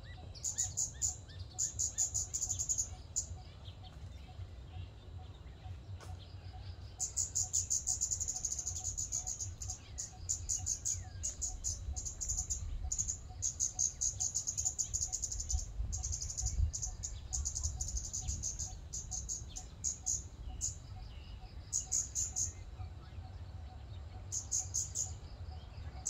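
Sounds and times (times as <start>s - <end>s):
bird high ticking calls: 0.0s - 26.0s
low background rumble: 0.0s - 26.0s.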